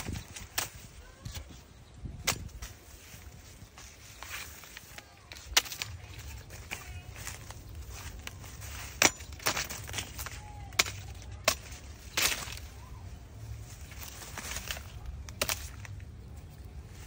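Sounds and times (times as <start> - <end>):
sickle chopping corn stalks: 0.0 - 1.6, 2.2 - 17.0.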